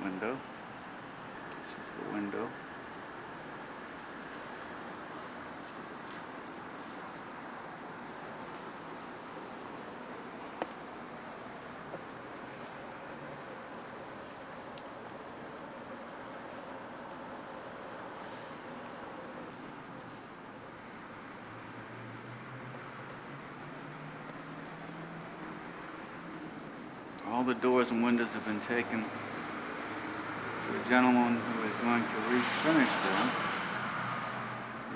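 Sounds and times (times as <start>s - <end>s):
background hiss: 0.0s - 34.9s
insects trilling: 0.0s - 34.9s.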